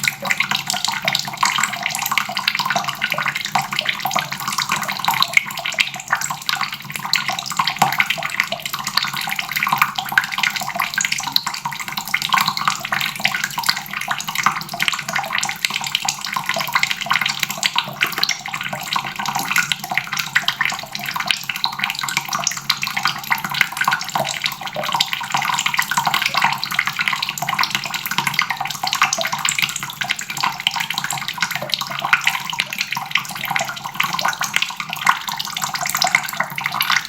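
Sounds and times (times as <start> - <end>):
faucet water splashing into basin: 0.0 - 37.0.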